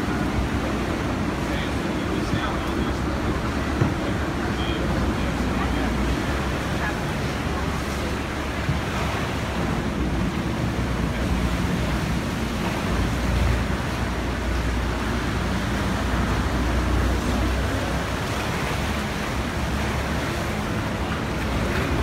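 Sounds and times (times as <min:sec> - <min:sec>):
sea water surging: 0:00.0 - 0:22.0.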